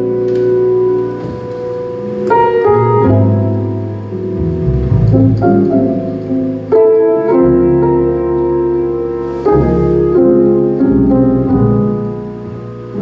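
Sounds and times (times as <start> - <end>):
slow jazz piano trio: 0.0 - 13.0.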